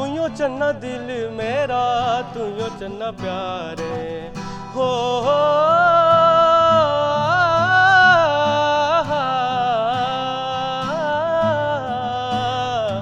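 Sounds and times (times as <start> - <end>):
strummed accompaniment: 0.0 - 13.0
wordless vocal melody: 0.0 - 13.0.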